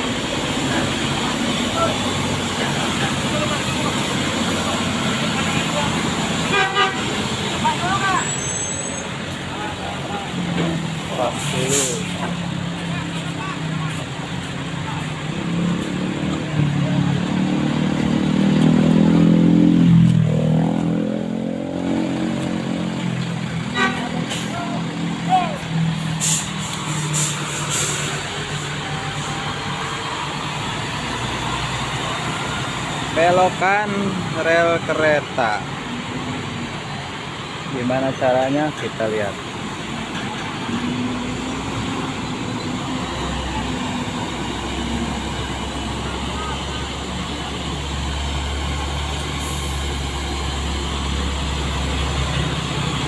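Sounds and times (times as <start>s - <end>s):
diesel truck engine under load: 0.0s - 53.0s.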